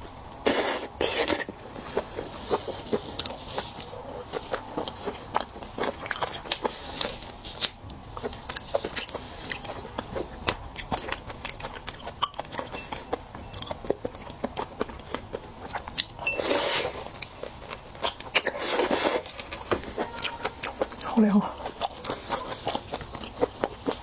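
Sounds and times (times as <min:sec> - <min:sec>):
shell crunching while chewing: 0:00.3 - 0:24.0.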